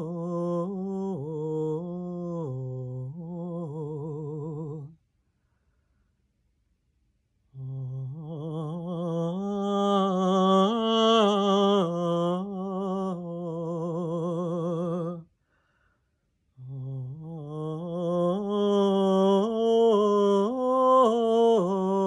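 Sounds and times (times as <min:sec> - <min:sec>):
woman singing wordlessly: 0:00.0 - 0:05.0, 0:07.5 - 0:15.3, 0:16.6 - 0:22.0.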